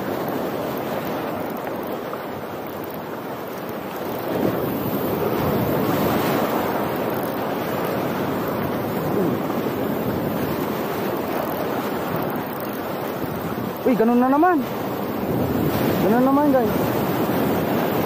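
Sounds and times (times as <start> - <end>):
surf washing over rocks: 0.0 - 18.0.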